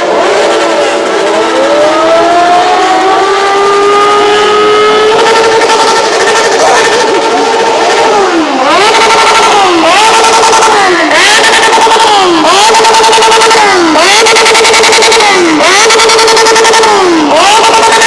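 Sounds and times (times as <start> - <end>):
motorcycle engine revving hard: 0.0 - 18.0.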